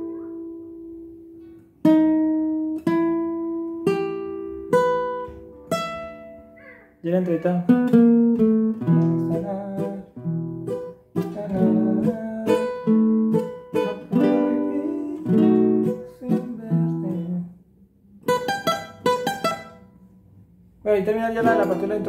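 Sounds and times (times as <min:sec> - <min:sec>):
small nylon-string guitar picking: 0:00.0 - 0:17.6, 0:21.3 - 0:22.0.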